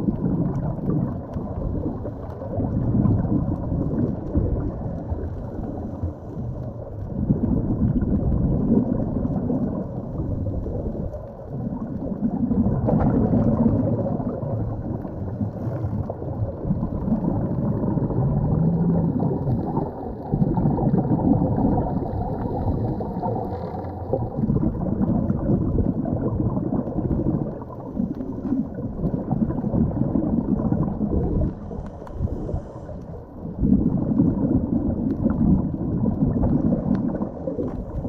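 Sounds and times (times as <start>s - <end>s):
bubbles gurgling underwater: 0.0s - 38.0s.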